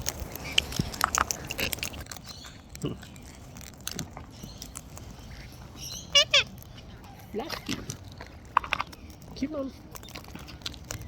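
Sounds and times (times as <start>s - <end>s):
cockatoos cracking seed: 0.0s - 11.0s.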